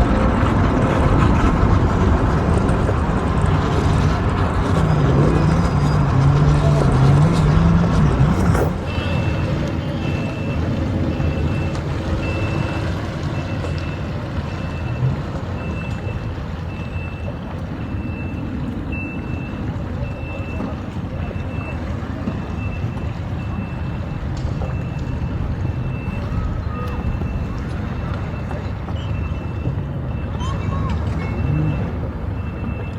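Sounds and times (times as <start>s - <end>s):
low engine rumble: 0.0s - 32.9s
reversing alarm beeping: 3.8s - 32.9s.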